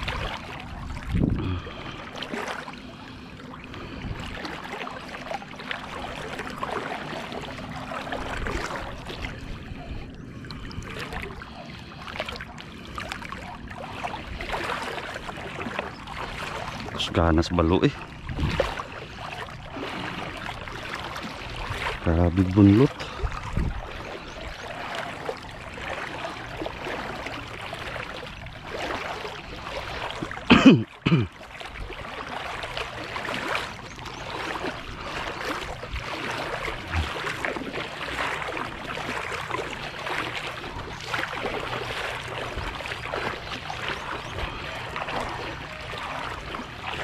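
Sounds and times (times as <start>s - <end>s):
shallow water sloshing: 0.0s - 47.0s.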